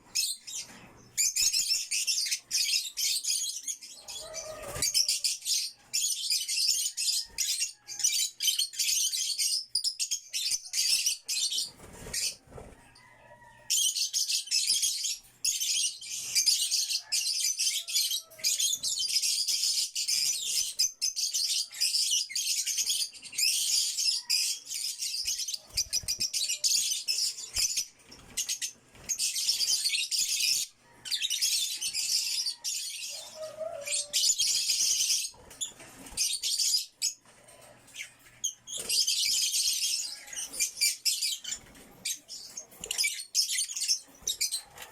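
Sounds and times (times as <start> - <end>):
lovebirds chirping: 0.0 - 44.9.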